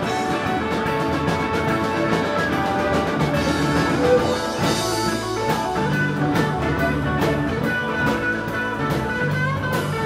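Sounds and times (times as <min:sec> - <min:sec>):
drum kit beat: 0:00.0 - 0:10.0
sustained guitar notes: 0:00.0 - 0:10.0.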